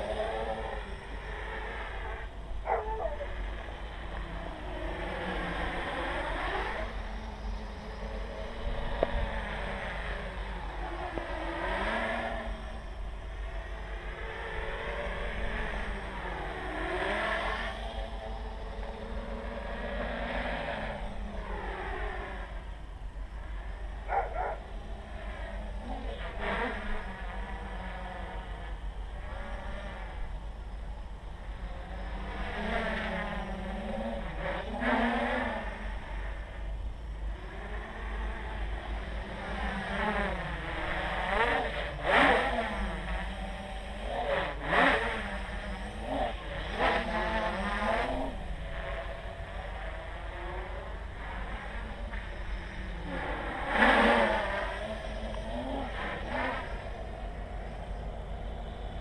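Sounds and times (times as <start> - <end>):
drone motors whining: 0.0 - 59.0
steady low rumble: 0.0 - 59.0.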